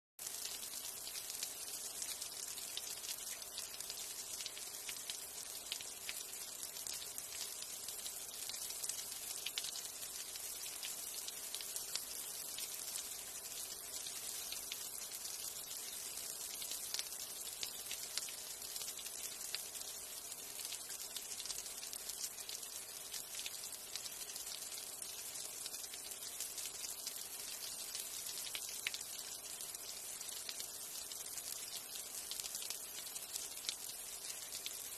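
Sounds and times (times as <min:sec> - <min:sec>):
light rain falling: 0:00.2 - 0:34.9.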